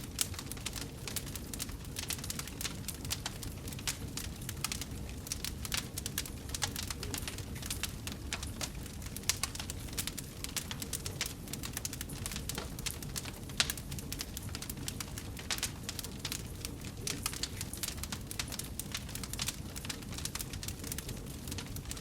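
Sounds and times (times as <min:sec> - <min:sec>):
low rumble of flame: 0:00.0 - 0:22.0
wood fire crackling: 0:00.0 - 0:22.0.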